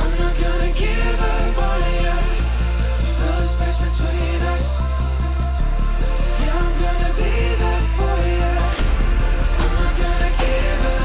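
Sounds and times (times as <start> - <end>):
music with pulsing beat and bass: 0.0 - 11.0.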